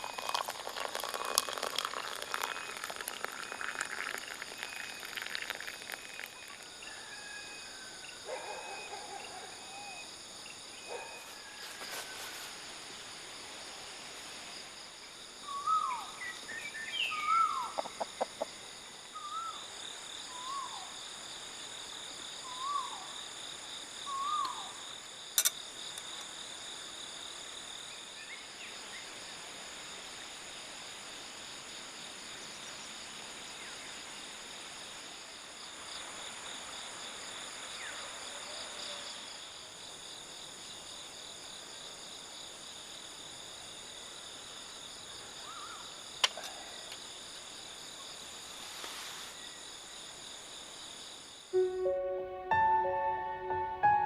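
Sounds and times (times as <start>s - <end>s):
insects trilling: 0.0s - 29.3s, 35.2s - 51.7s.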